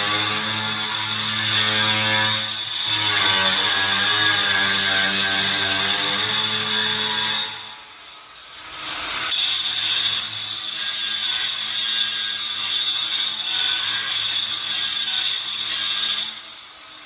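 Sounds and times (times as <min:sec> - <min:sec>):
angle grinder cutting stone: 0:00.0 - 0:07.7, 0:09.0 - 0:16.5.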